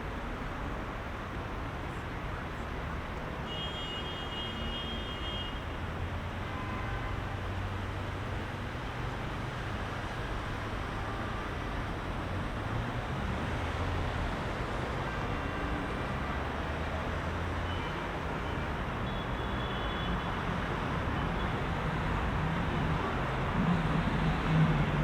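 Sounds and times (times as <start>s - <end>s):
car engines: 0.0s - 3.6s, 7.1s - 25.0s.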